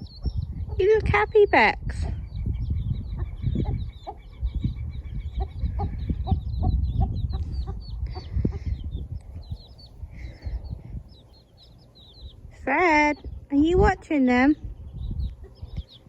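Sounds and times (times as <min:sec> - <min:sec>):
chicks peeping: 0:00.0 - 0:16.0
low rumble: 0:01.8 - 0:16.0
hen clucking: 0:02.0 - 0:16.0.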